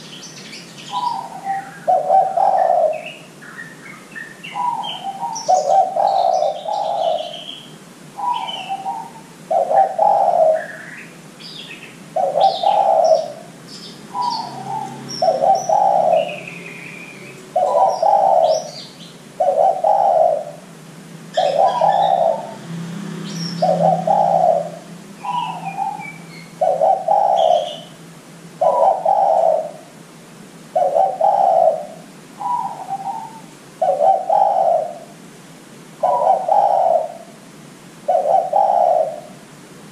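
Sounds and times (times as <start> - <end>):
small birds chirping: 0.0 - 29.9, 30.8 - 35.2, 36.0 - 37.4, 38.1 - 39.4
dove cooing: 0.8 - 7.6, 8.2 - 20.7, 21.3 - 22.6, 23.5 - 28.0, 28.6 - 30.0, 30.7 - 35.2, 36.0 - 37.4, 38.0 - 39.5.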